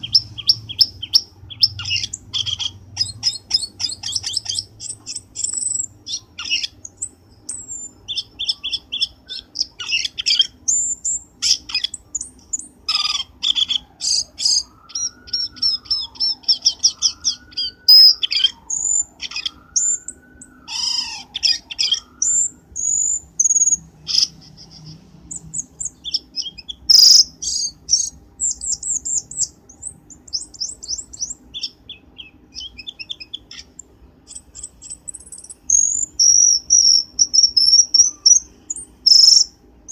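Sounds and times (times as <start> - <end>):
bird chirps trills and whistles: 0.0 - 39.9.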